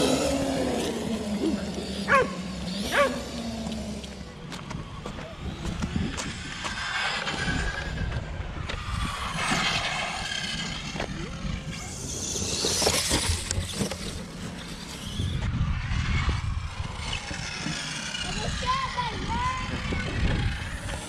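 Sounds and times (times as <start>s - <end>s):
electric motors whining: 0.0s - 21.0s
toy truck rushing over grass: 0.0s - 21.0s
tyre and drivetrain rumble: 0.0s - 21.0s.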